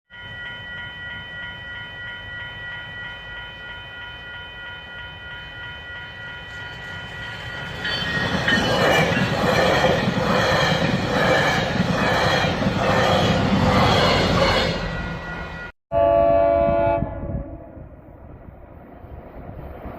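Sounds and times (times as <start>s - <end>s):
train rumbling past: 0.6s - 19.9s.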